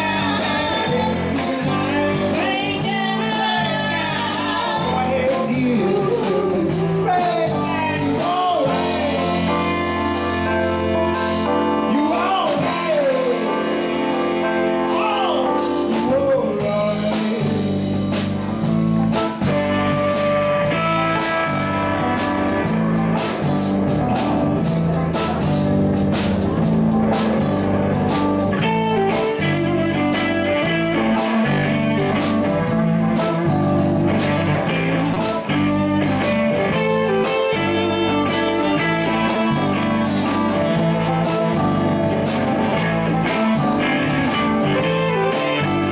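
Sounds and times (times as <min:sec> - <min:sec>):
saxophone: 0:00.0 - 0:17.9, 0:26.9 - 0:45.9
drum kit: 0:00.0 - 0:45.9
electric bass: 0:00.0 - 0:45.9
electric guitar: 0:00.0 - 0:45.9.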